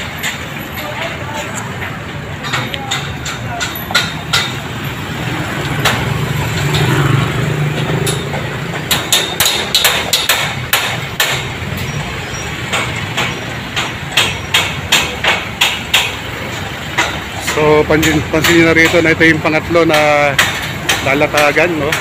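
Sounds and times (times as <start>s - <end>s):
hammer strikes: 0.0s - 22.0s
low rumble of traffic: 0.0s - 22.0s.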